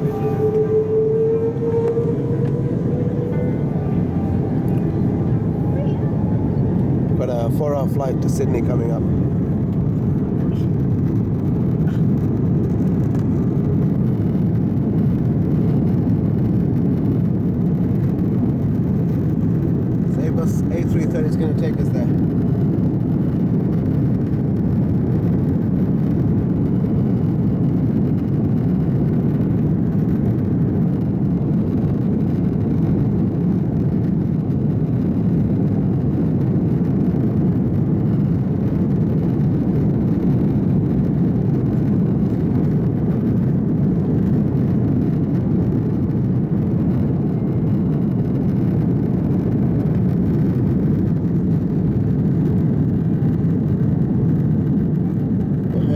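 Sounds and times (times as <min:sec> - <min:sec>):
airliner engines rumbling in cabin: 0:00.0 - 0:55.9.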